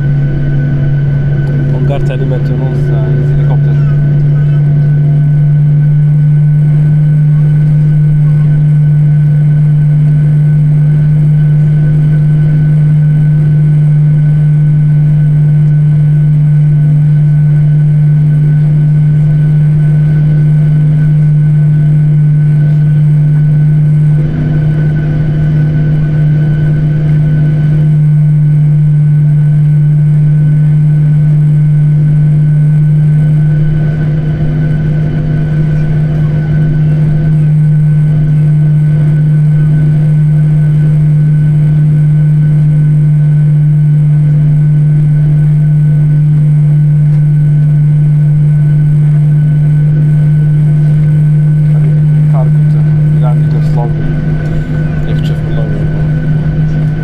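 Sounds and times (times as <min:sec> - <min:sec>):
high whine: 0:00.0 - 0:57.0
jet airliner cabin drone: 0:00.0 - 0:57.0.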